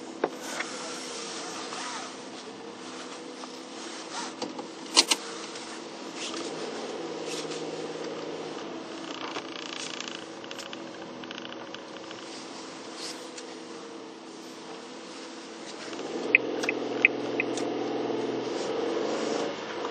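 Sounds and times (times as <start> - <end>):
car engine and road hum: 0.0 - 19.9.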